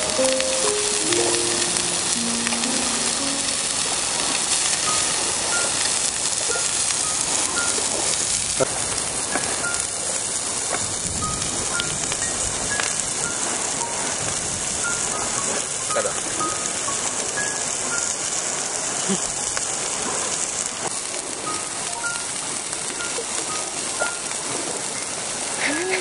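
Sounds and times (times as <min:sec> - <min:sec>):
outdoor hiss: 0:00.0 - 0:26.0.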